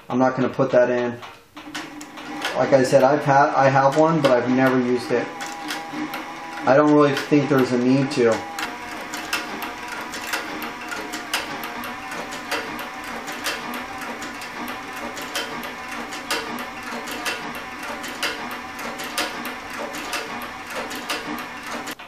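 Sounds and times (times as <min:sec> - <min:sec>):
sewing machine motor whirring: 0:01.2 - 0:22.0
sewing machine needle clicking: 0:01.2 - 0:22.0.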